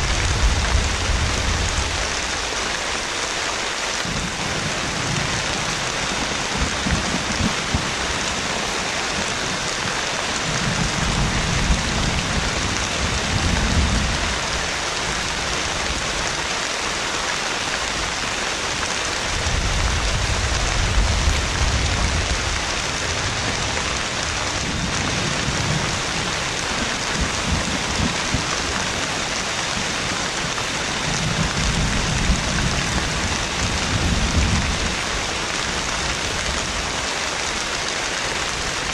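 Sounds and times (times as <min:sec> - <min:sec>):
thunder rumbling: 0:00.0 - 0:02.6, 0:04.0 - 0:16.0, 0:19.2 - 0:36.9
heavy rain pouring: 0:00.0 - 0:38.9.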